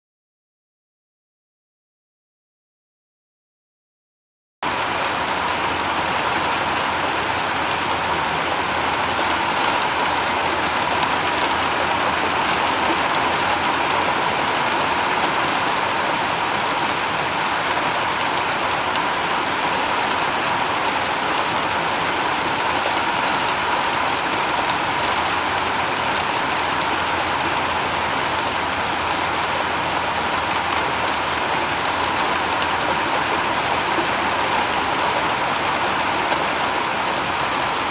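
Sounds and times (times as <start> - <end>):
rain on a shingle roof: 4.6 - 37.9.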